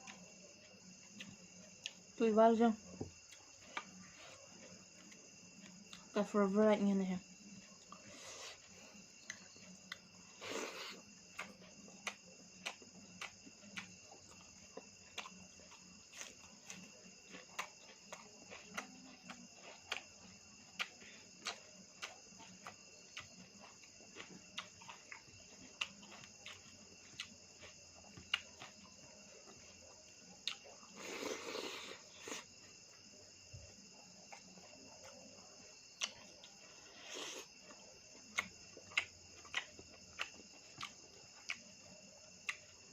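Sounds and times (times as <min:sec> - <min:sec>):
chewing and lip-smacking: 0:03.2 - 0:06.1, 0:07.4 - 0:33.1, 0:33.7 - 0:42.9.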